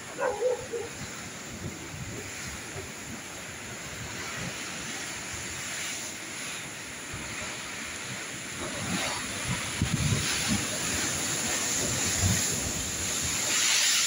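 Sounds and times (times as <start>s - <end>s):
wind buffeting microphone: 0.0s - 13.8s
sea surf breaking against rocks: 0.0s - 14.0s.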